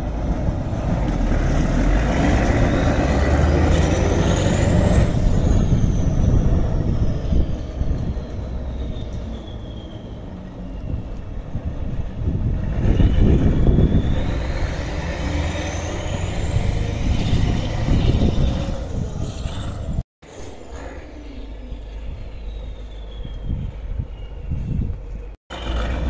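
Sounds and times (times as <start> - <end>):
tractor diesel engine under load: 0.0 - 20.0, 25.0 - 26.0
high whine rising in pitch: 0.6 - 26.0.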